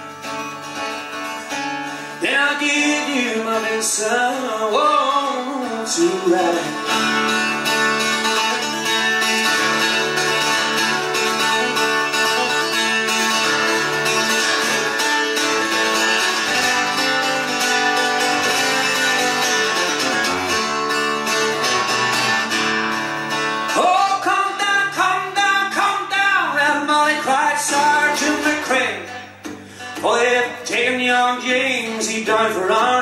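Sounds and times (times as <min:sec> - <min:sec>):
acoustic guitar picking: 0:00.0 - 0:33.0.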